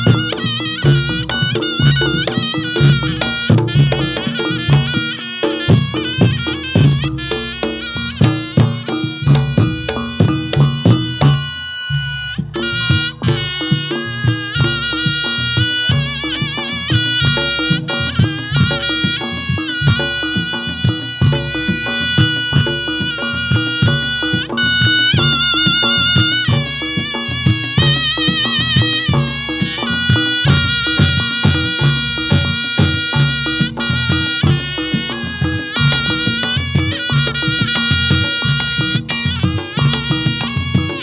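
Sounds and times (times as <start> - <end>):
drums and gongs beat: 0.0 - 41.0
reedy shawm melody: 0.0 - 41.0.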